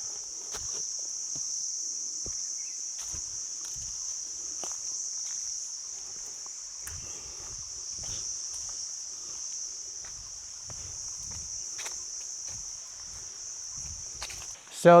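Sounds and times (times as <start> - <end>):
footsteps on a trail: 0.0 - 15.0
insects buzzing: 0.0 - 15.0.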